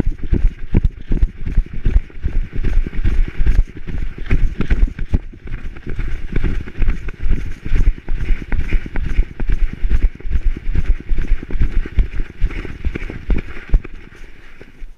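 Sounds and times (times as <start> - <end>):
dog running with thumping strides: 0.0 - 14.9.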